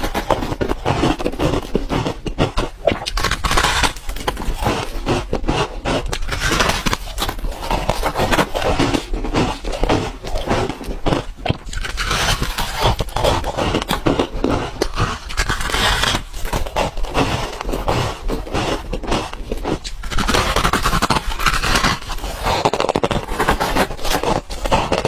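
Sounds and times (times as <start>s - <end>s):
ice crunching being chewed: 0.0s - 25.0s.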